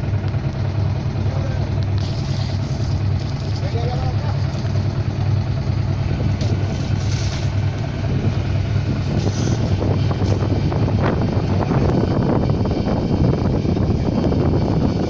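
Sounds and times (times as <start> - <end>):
boat engine droning: 0.0 - 15.0
hiss of wind and water: 0.0 - 15.0.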